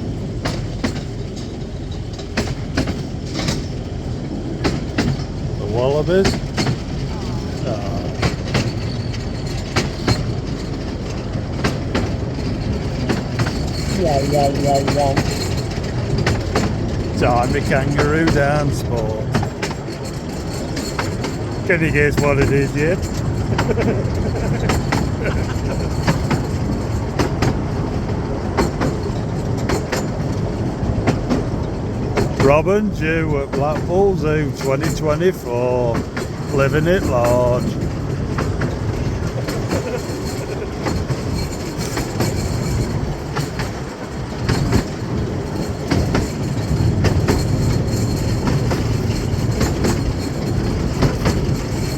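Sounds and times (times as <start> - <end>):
train low rumble: 0.0 - 51.9
wheels clicking over rail joints: 0.0 - 51.9.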